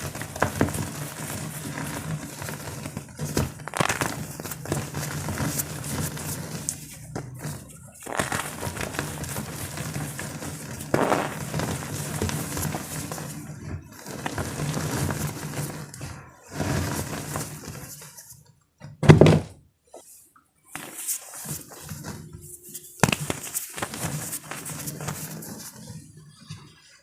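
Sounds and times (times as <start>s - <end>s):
chalk crumbling and crackling: 0.0s - 18.4s, 20.7s - 26.0s.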